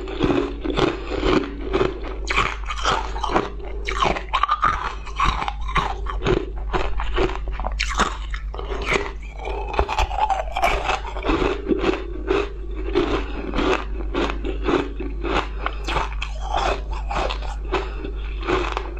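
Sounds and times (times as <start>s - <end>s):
person chewing crunchy sweet: 0.0s - 18.9s
steady low hum: 0.0s - 18.9s.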